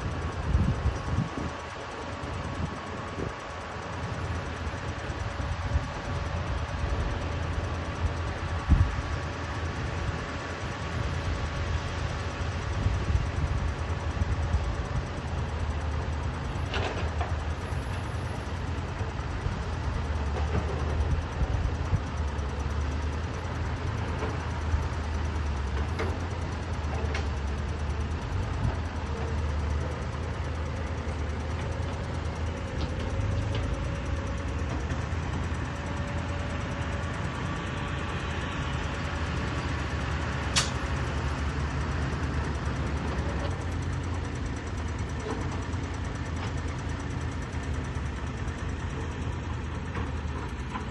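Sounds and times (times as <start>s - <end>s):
excavator diesel engine rumble: 0.0s - 50.9s.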